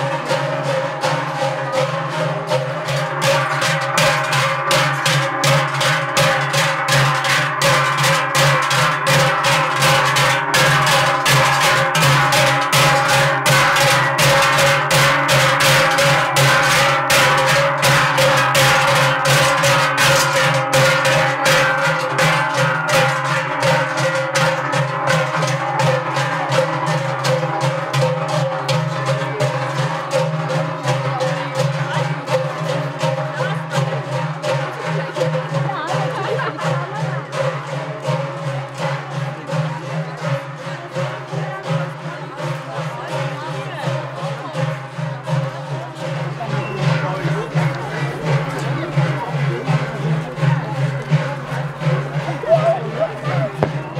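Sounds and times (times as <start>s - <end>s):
large cowbells clanging: 0.0s - 53.9s.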